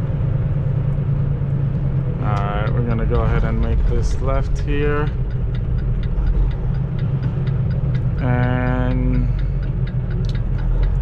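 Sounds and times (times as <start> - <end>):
diesel truck engine running: 0.0 - 11.0
turn signal clicking: 1.7 - 11.0.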